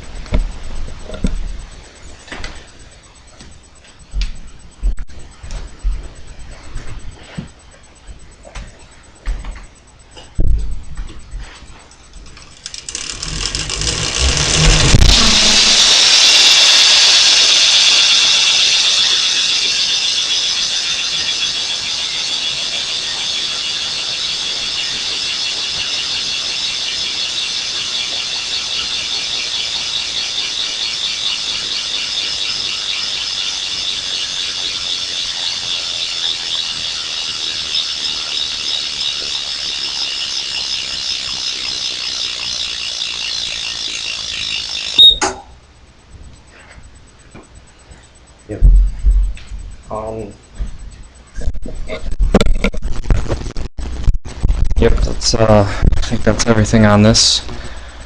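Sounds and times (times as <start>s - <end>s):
bike hub ratcheting buzz: 9.1s - 53.3s, 55.2s - 58.0s.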